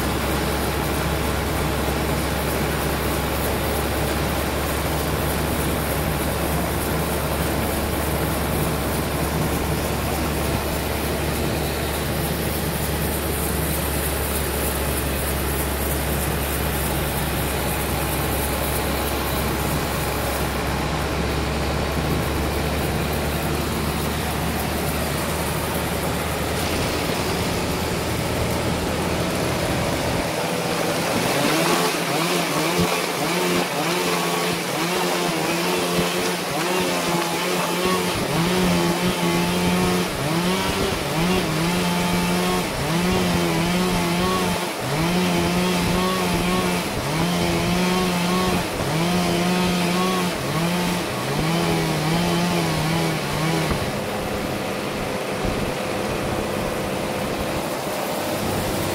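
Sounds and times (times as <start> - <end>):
sawmill saw and engine running: 0.0 - 58.9.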